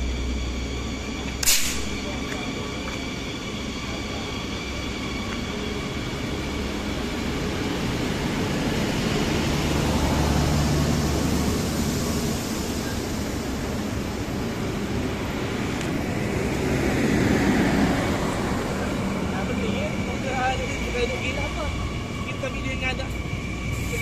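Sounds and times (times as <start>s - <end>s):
diesel train rumbling past: 0.0s - 24.0s.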